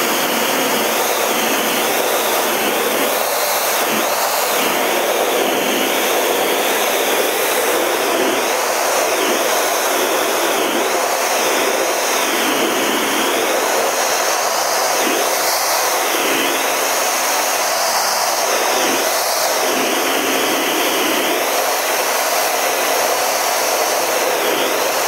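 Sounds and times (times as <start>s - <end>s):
jet engine rushing: 0.0s - 25.0s.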